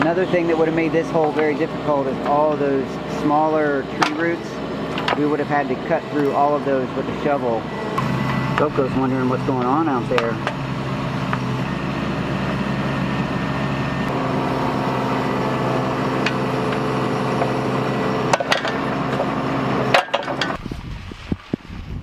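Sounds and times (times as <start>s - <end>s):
excavator diesel engine running: 0.0s - 20.6s
wind: 0.0s - 22.0s.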